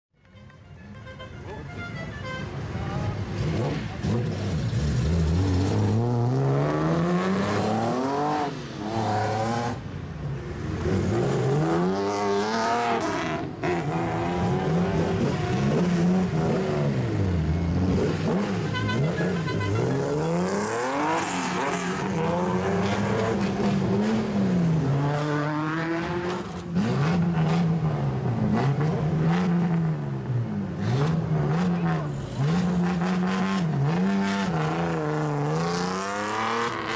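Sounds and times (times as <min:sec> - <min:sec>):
car engines revving loudly: 0:02.6 - 0:36.9.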